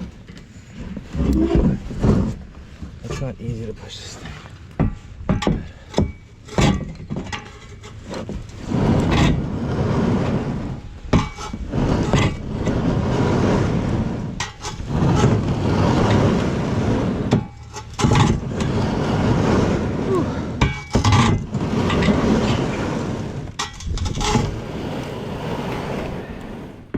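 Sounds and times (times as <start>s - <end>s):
kayak hull scraping across ice: 0.0s - 26.9s.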